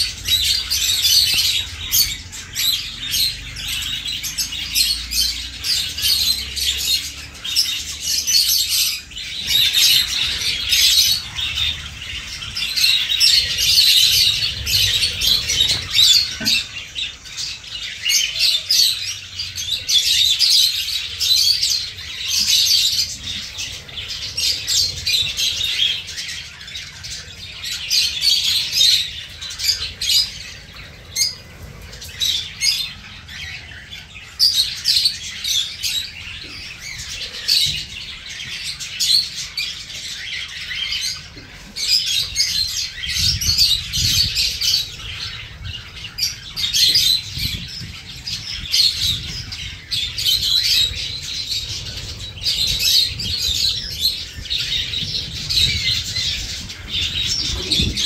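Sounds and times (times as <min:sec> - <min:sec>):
small birds chirping and chattering: 0:00.0 - 0:58.0.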